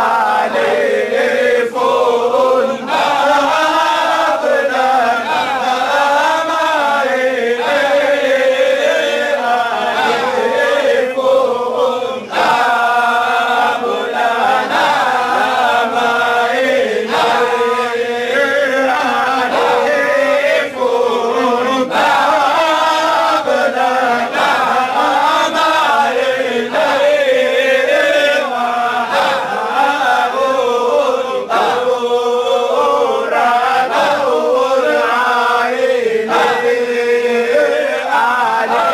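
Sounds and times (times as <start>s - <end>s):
men chanting together: 0.0s - 38.9s.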